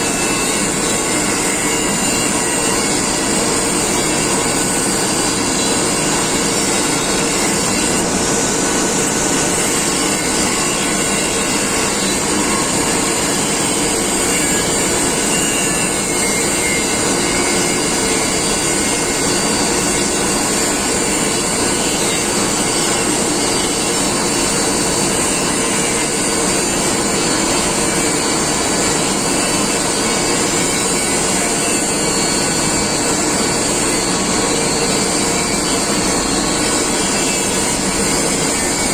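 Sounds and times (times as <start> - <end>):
power tool whirring: 0.0 - 38.9.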